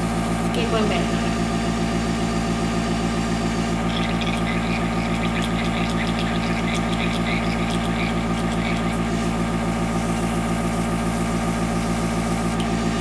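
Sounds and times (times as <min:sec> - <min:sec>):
compressor motor hum: 0:00.0 - 0:13.0.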